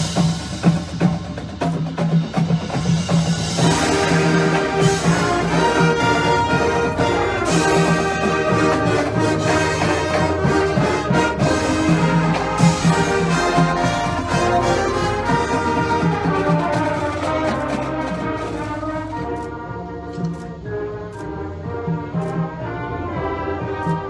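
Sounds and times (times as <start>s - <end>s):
marching band brass playing: 0.0s - 24.0s.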